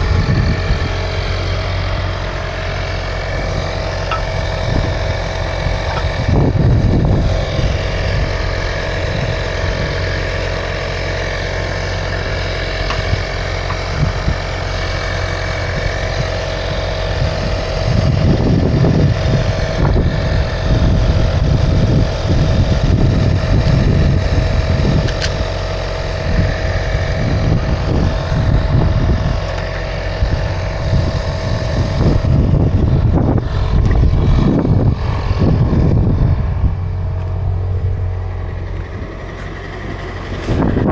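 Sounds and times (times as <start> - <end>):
engine drone: 0.0 - 40.9
road rumble: 0.0 - 40.9.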